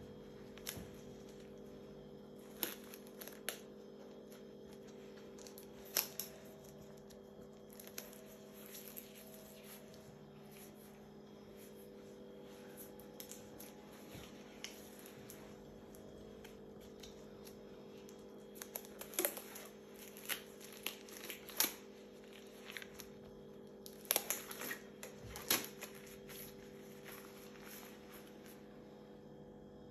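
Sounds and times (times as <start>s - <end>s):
latex gloves crinkling: 0.1s - 28.8s
gloves crackling and snapping: 0.3s - 10.8s, 12.8s - 28.7s.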